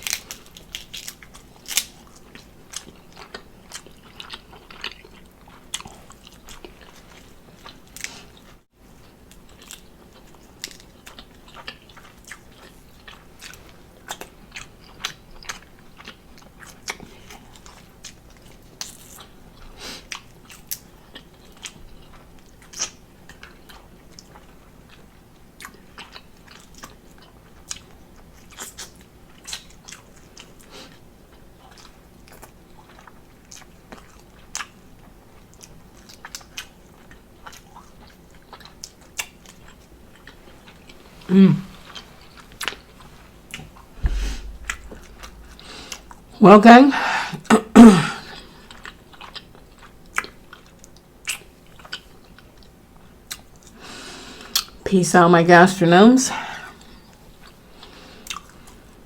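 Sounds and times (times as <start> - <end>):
person chewing seafood: 0.0 - 46.4, 48.0 - 54.8, 56.6 - 59.0.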